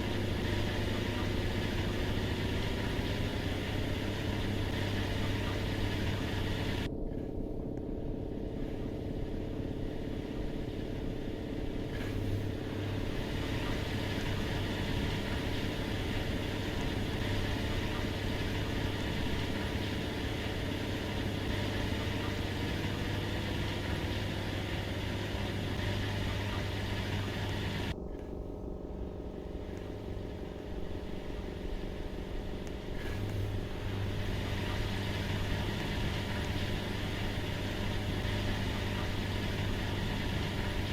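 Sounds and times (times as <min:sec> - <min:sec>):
washing machine running: 0:00.0 - 0:06.9, 0:08.6 - 0:28.0, 0:29.6 - 0:40.9.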